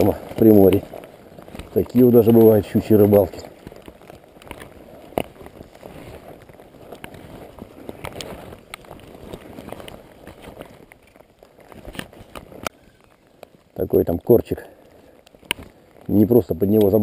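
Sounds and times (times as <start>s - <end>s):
footsteps through wet undergrowth: 0.0s - 17.0s
rain jacket rustling: 0.0s - 17.0s
twigs brushing: 0.0s - 17.0s.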